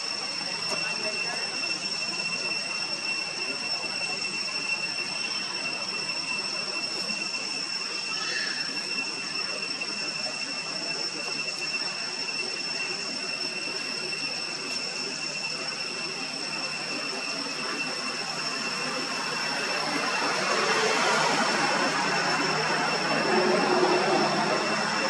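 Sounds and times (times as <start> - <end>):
constant high-pitched whine: 0.0 - 25.0.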